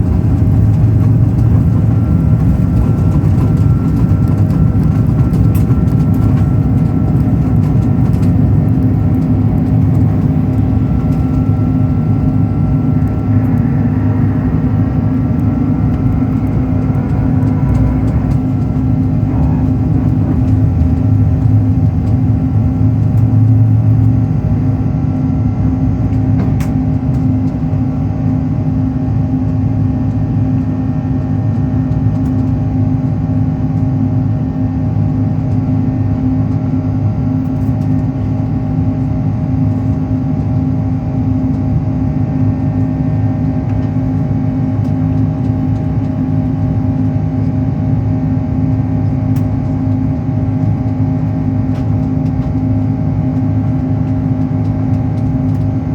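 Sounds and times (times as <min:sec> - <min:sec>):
jet engine cabin drone: 0:00.0 - 0:55.9.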